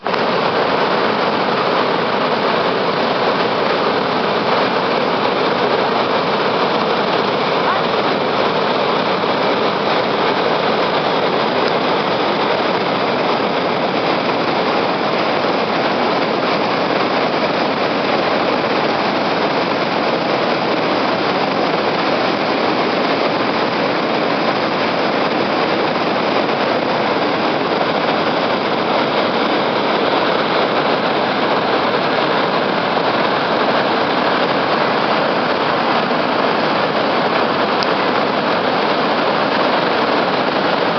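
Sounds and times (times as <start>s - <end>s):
river floodwater rushing: 0.0s - 40.9s.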